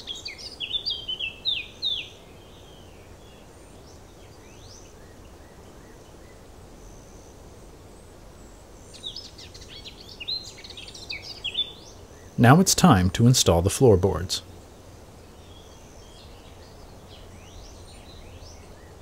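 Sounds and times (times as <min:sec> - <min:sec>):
small birds chirping: 0:00.0 - 0:19.0
steady background hiss: 0:00.0 - 0:19.0.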